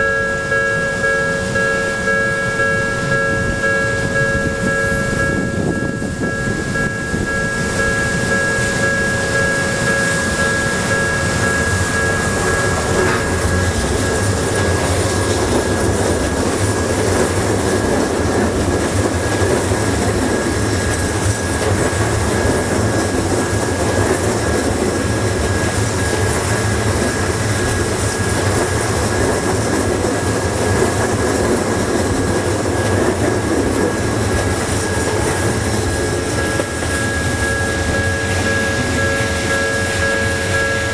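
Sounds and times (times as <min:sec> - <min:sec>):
level-crossing warning bell: 0:00.0 - 0:40.9
train wheels rumbling on rails: 0:00.0 - 0:40.9.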